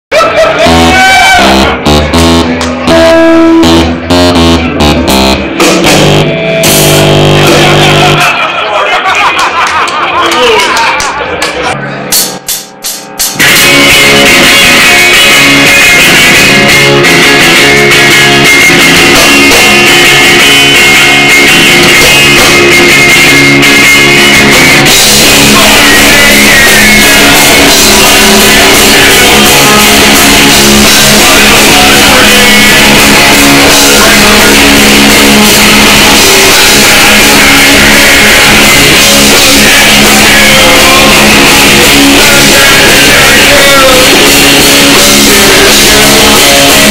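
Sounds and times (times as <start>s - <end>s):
electric guitar: 0.6s - 8.2s, 13.3s - 46.9s
drum kit: 0.6s - 8.4s, 12.1s - 46.9s.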